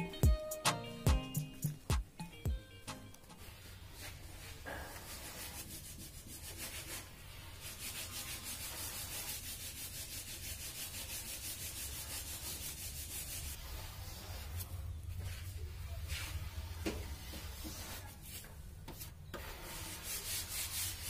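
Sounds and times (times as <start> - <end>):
sandpaper rasping on metal: 3.4 - 15.4, 16.1 - 21.0.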